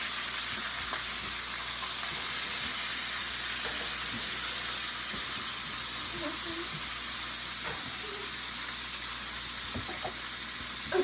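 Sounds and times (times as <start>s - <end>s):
burger patty sizzling in a pan: 0.0s - 11.0s.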